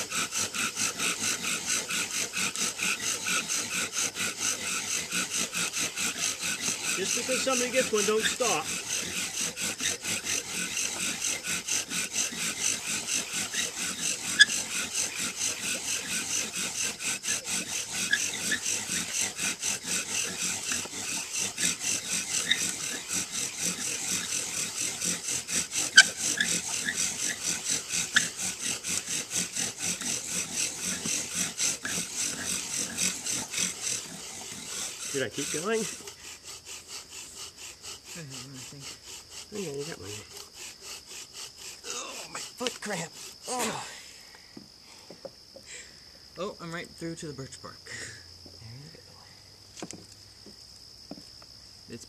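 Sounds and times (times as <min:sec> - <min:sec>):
bow drills rasping on wood: 0:00.0 - 0:43.9.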